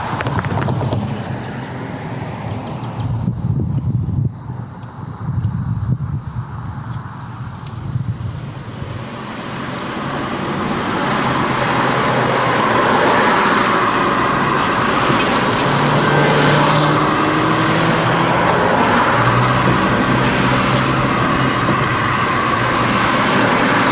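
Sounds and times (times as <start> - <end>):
low engine hum: 0.0 - 23.9
road traffic passing: 0.0 - 23.9.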